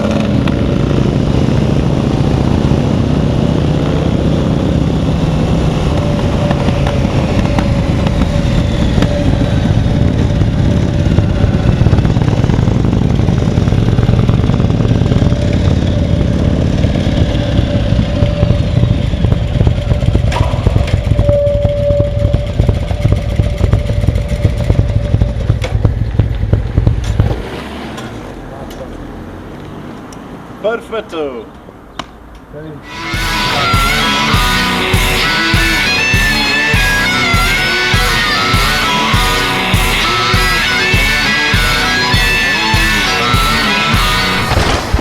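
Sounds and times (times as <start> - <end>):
motorcycle engine running: 0.0 - 27.5, 32.8 - 45.0.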